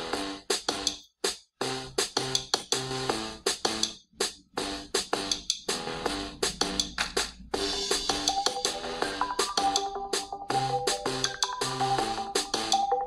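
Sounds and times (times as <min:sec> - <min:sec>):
music with steady beat: 0:00.0 - 0:13.0.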